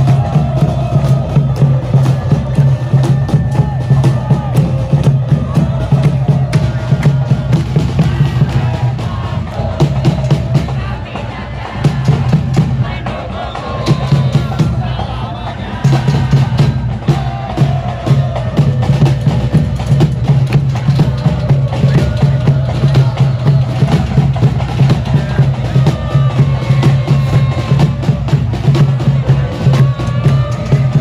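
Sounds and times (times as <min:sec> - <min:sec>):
bass drum beating: 0:00.0 - 0:31.0
crowd chanting: 0:00.0 - 0:31.0.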